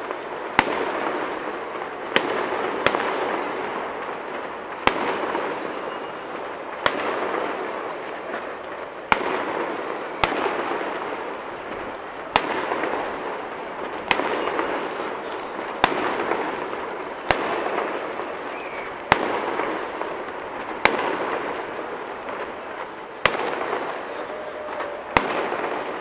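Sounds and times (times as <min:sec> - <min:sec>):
fireworks bursting bangs: 0:00.0 - 0:26.0.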